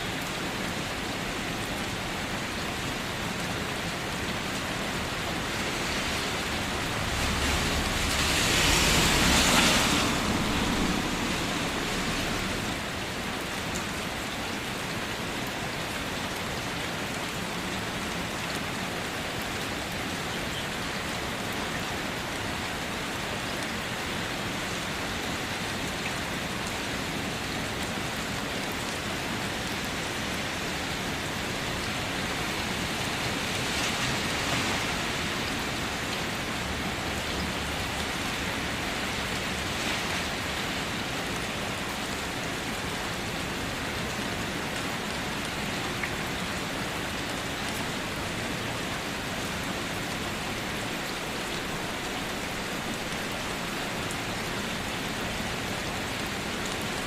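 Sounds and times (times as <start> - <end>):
rain drumming on a car: 0.0 - 57.0.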